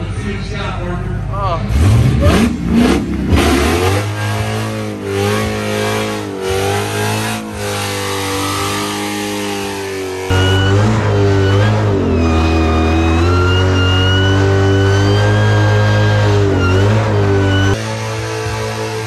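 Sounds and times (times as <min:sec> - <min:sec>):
car engine revving high: 0:01.6 - 0:19.0.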